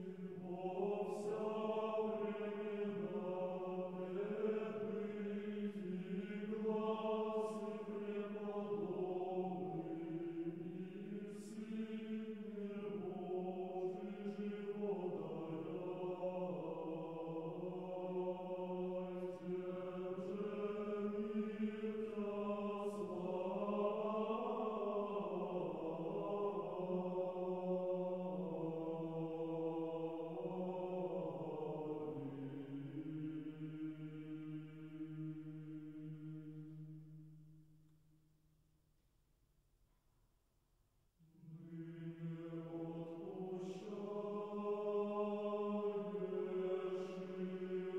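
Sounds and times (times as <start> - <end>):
slow vocal chant: 0.0 - 37.8, 41.2 - 47.9.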